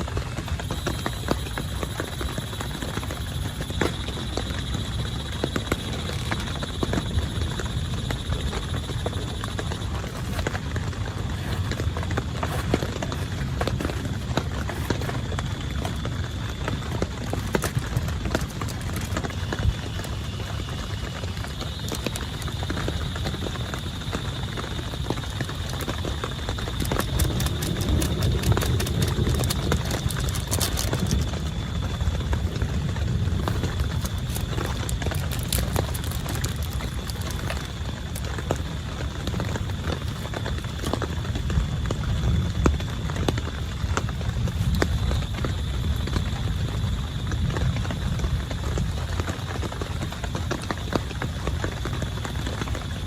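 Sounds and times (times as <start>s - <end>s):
heavy rain on a tent: 0.0s - 53.0s.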